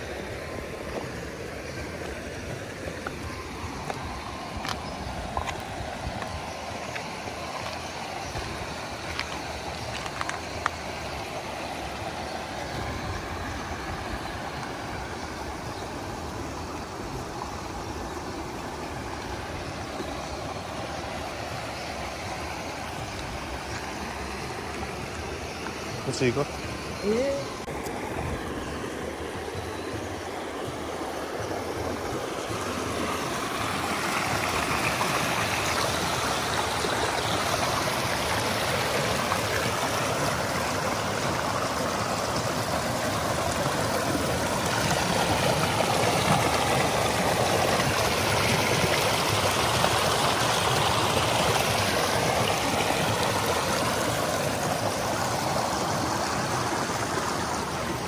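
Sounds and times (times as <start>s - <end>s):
river flowing over stones: 0.0s - 58.0s.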